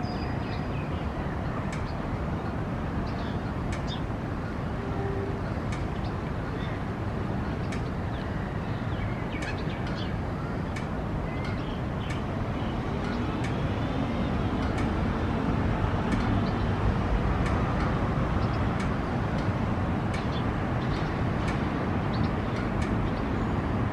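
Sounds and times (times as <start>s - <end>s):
city traffic rumble: 0.0s - 23.9s.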